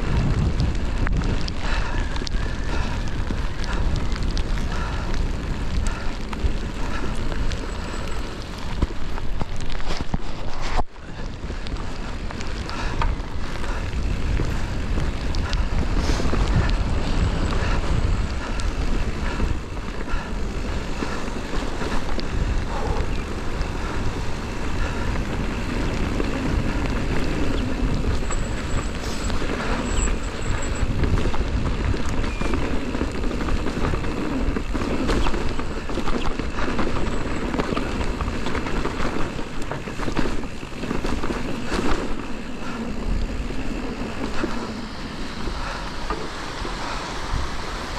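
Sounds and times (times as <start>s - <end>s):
bike rattling: 0.0s - 47.9s
tyres on trail: 0.0s - 47.9s
wind buffeting microphone: 0.0s - 47.9s.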